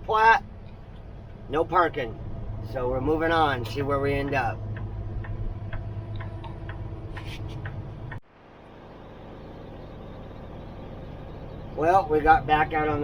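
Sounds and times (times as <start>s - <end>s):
cab rumble at highway speed: 0.0s - 8.2s, 9.0s - 13.0s
diesel truck engine hum: 0.0s - 13.0s.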